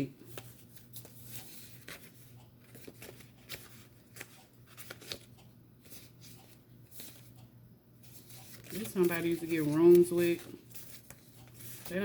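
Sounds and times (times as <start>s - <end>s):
cards being shuffled: 0.3s - 7.3s, 8.0s - 12.0s.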